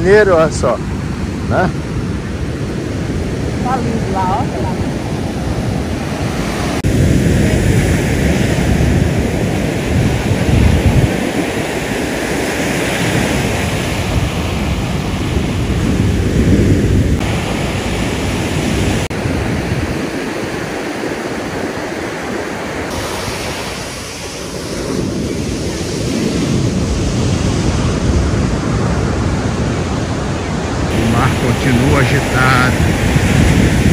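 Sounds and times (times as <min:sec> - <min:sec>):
ocean waves breaking on beach: 0:00.0 - 0:33.9
wind buffeting microphone: 0:00.0 - 0:33.9.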